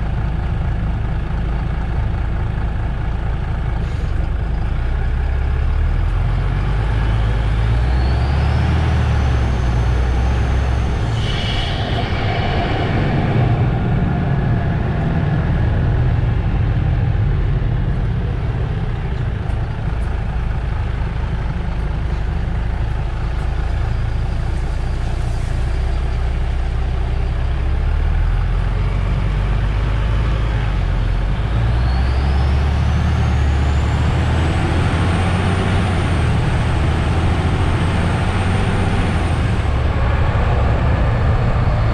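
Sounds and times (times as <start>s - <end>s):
bus diesel engine rumbling: 0.0s - 41.9s
rising whine: 5.3s - 41.9s.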